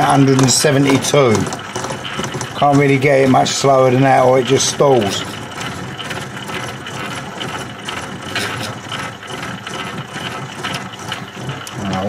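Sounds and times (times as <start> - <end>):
milling machine rattling clicks: 0.0 - 12.0.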